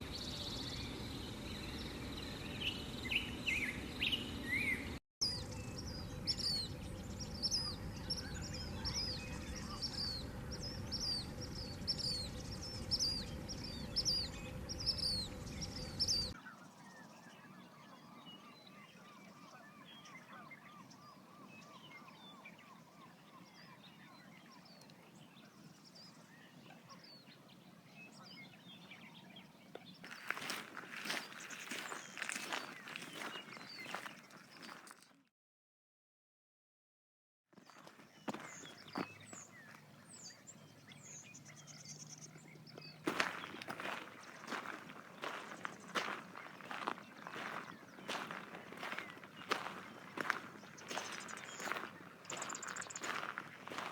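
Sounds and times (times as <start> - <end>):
wetland birds calling: 0.0 - 35.0, 37.6 - 53.9.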